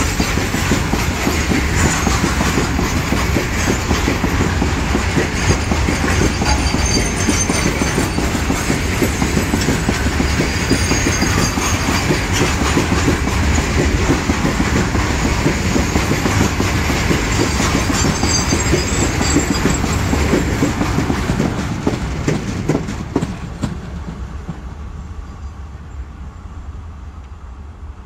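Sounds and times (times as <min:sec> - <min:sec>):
freight train wheels clattering: 0:00.0 - 0:25.5.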